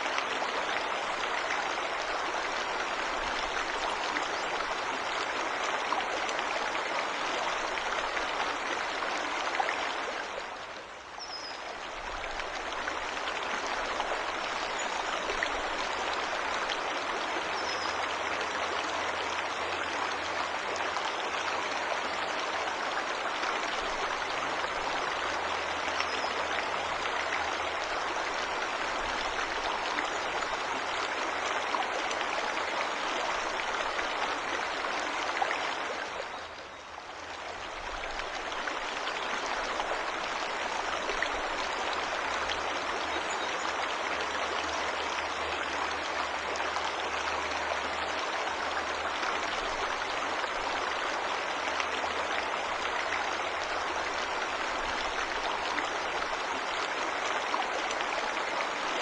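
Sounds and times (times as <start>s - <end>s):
waterfall and stream rushing: 0.0s - 59.0s.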